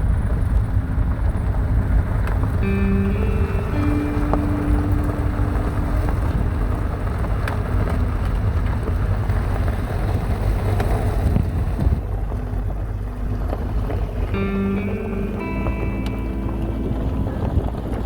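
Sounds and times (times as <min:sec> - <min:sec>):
vehicle rumbling over rough road: 0:00.0 - 0:18.0
wind noise on microphone: 0:00.0 - 0:18.0.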